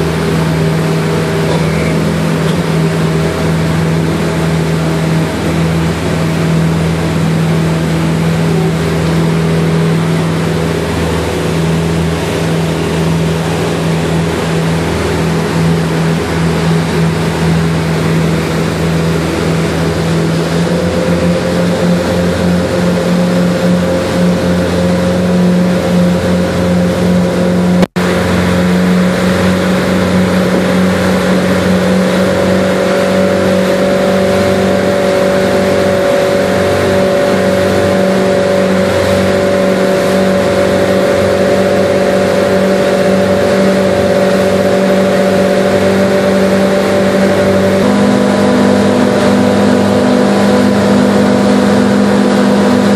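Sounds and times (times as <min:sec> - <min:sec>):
boat engines running: 0:00.0 - 0:52.9
rushing wake and wind: 0:00.0 - 0:52.9.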